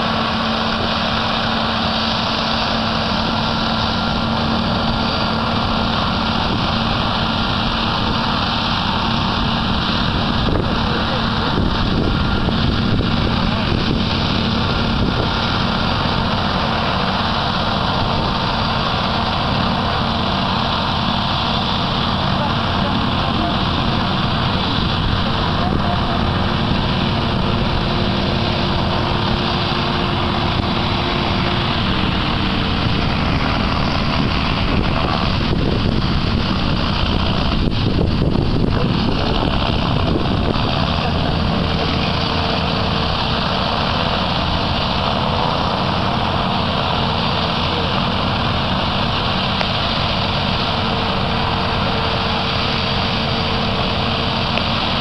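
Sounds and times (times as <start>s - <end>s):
combine harvester engine: 0.0s - 55.0s
tractor engine running: 0.0s - 55.0s.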